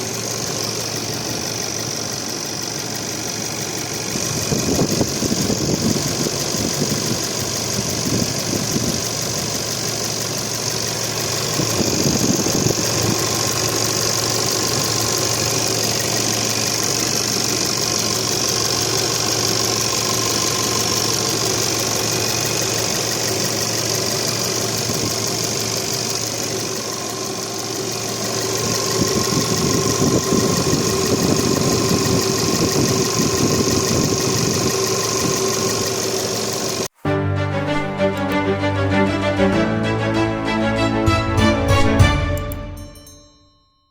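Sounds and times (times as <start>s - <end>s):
diesel engine idling: 0.0s - 43.4s.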